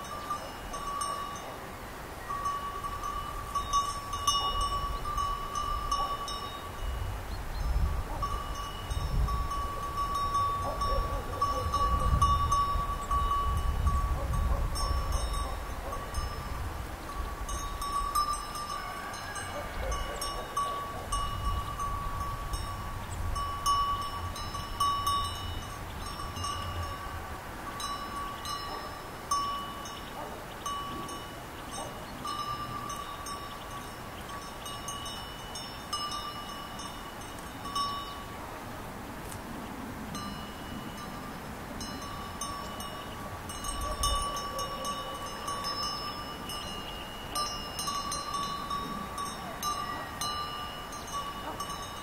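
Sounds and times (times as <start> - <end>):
sheep bells clinking: 0.0 - 38.4, 40.1 - 52.0.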